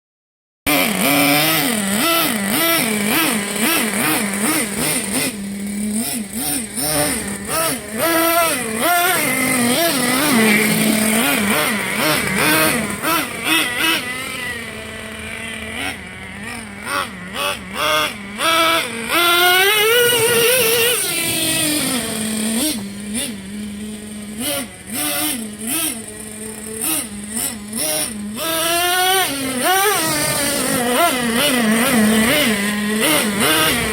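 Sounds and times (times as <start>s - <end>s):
small engine revving and idling: 0.7s - 33.9s.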